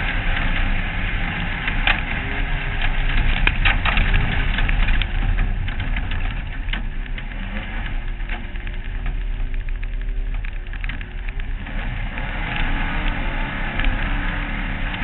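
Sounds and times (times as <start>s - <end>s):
race car engine rumble: 0.0s - 15.0s
sharp clacks and cracks: 0.0s - 15.0s.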